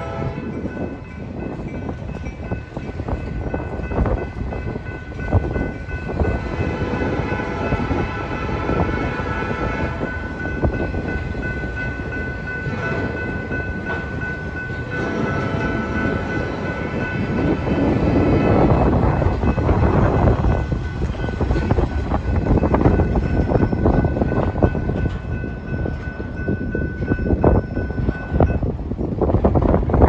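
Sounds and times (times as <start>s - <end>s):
freight train wheels rumbling: 0.0s - 30.0s
wheels clacking over rail joints: 1.5s - 28.4s.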